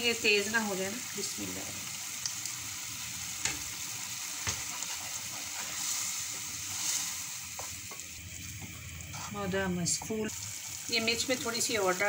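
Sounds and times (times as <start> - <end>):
sauce sizzling in a frying pan: 0.0 - 12.0.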